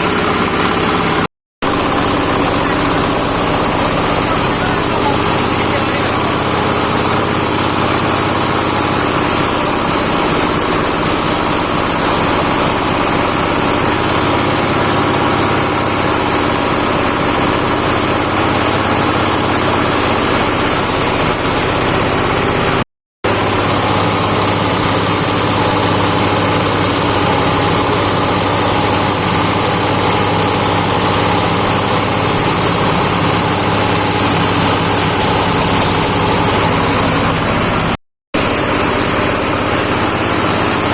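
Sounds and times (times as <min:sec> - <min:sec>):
grinding machine motor drone: 0:00.0 - 0:40.9.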